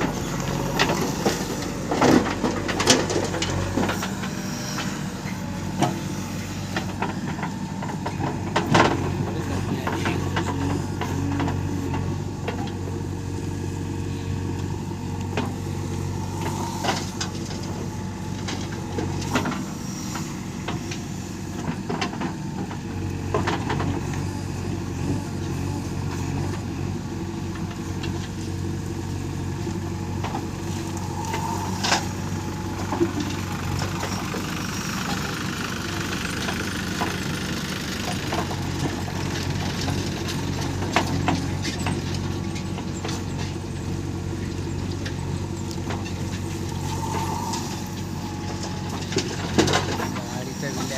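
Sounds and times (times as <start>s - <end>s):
diesel engines running steadily: 0.0s - 50.9s.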